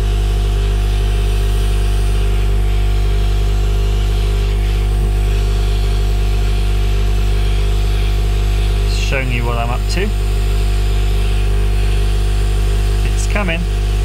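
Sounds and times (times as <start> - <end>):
fan drone: 0.0 - 14.0.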